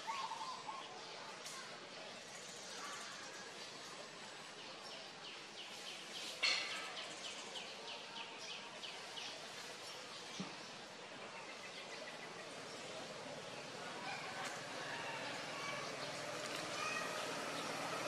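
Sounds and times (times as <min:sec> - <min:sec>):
faint forest ambience: 0:00.0 - 0:18.0.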